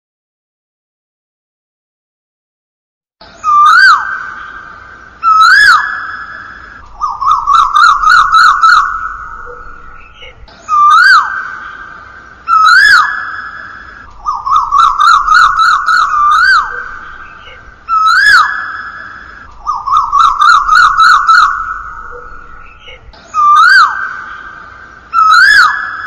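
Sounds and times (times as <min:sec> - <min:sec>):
bird calling with echo: 0:03.2 - 0:26.0.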